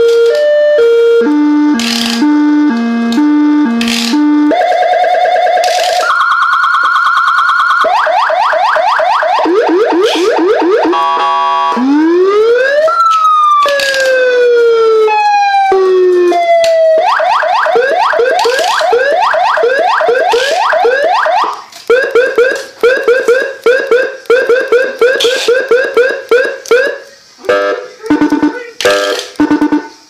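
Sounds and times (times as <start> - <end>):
electronic siren: 0.0 - 30.0.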